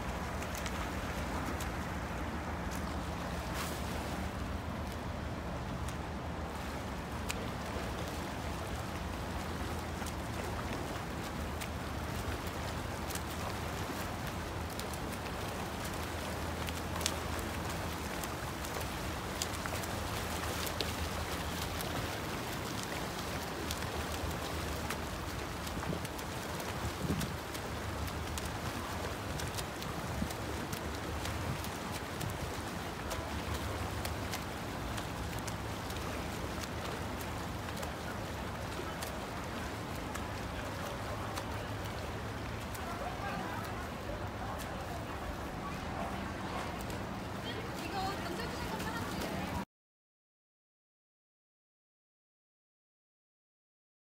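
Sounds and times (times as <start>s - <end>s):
sharp splash ticks: 0.0s - 4.2s, 4.8s - 6.0s, 6.6s - 44.9s
water splashing from swimming: 0.0s - 49.6s.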